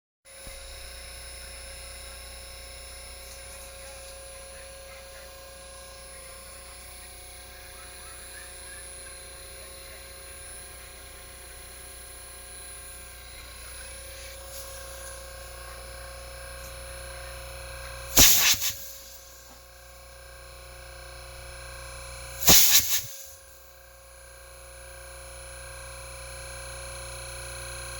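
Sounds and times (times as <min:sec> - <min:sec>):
electrical hum: 0:00.3 - 0:27.9.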